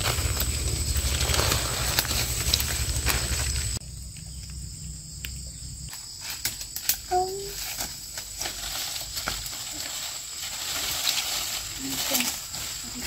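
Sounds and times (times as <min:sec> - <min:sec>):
clicks and snaps in undergrowth: 0:00.0 - 0:04.6, 0:05.2 - 0:13.0
insects droning: 0:00.0 - 0:13.0.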